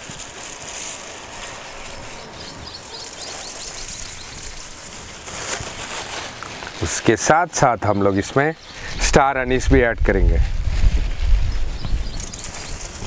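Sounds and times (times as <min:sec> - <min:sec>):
steady outdoor background noise: 0:00.0 - 0:13.0.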